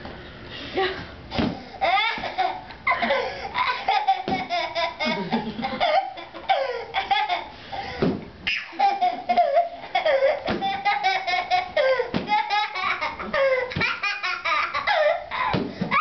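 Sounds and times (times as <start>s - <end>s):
toddler boy laughing: 1.7s - 16.0s.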